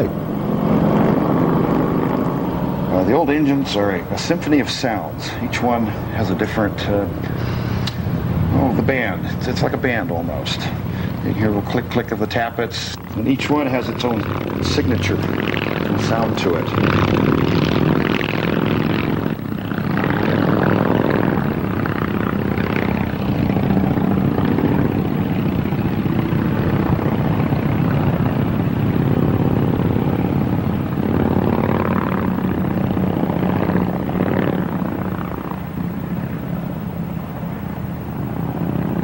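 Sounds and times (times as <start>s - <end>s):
motorcycle engines droning: 0.0s - 39.0s.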